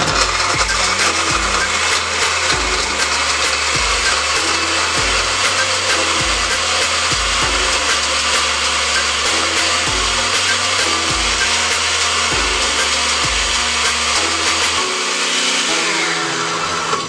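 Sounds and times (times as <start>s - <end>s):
blender running: 0.0s - 17.0s.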